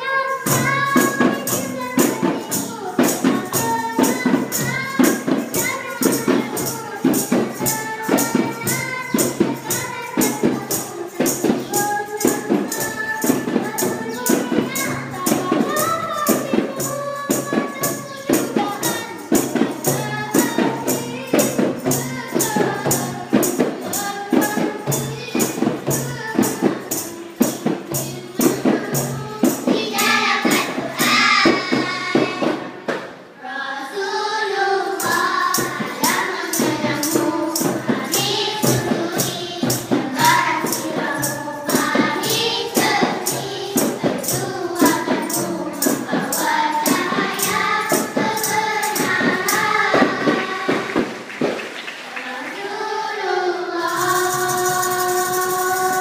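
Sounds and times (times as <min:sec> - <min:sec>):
girls singing in unison: 0:00.0 - 0:56.0
steady percussion beat: 0:00.4 - 0:33.3, 0:34.0 - 0:56.0.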